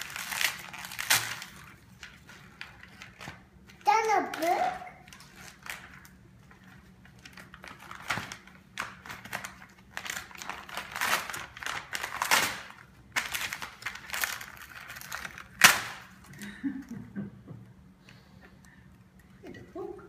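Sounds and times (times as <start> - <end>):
wrapping paper tearing and crinkling: 0.0 - 16.4.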